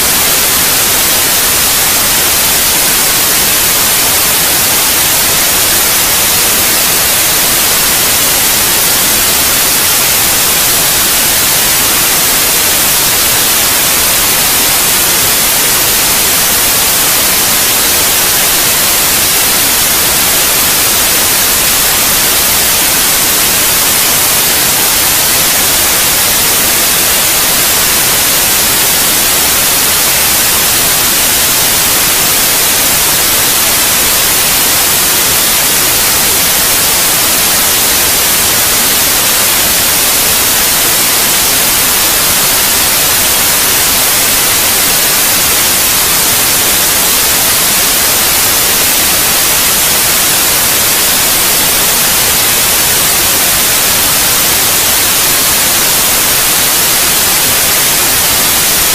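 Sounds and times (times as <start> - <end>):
steady white noise hiss: 0.0 - 58.9.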